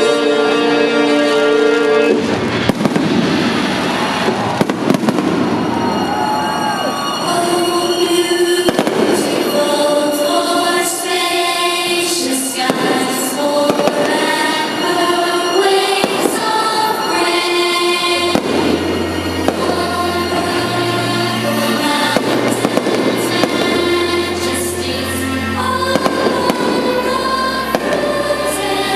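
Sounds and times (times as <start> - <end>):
loud music with held notes: 0.0 - 3.9, 4.6 - 28.9
fireworks bangs: 2.1 - 11.0, 12.2 - 28.6.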